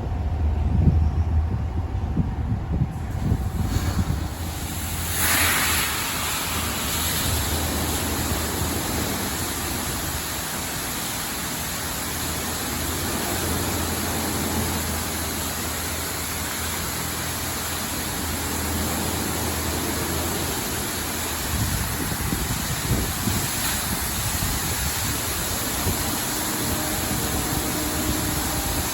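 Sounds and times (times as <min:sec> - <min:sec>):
low machine hum: 0:00.0 - 0:28.9
high-pressure water spraying: 0:03.1 - 0:28.9.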